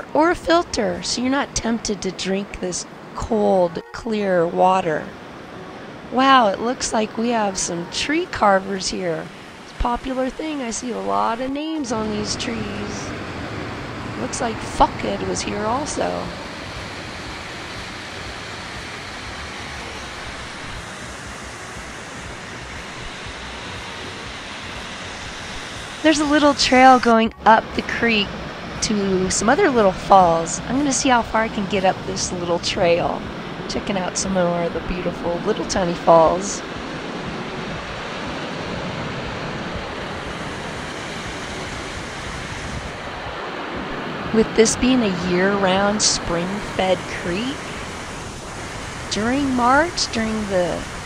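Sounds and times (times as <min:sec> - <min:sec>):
waterfall rushing: 0:04.2 - 0:51.0.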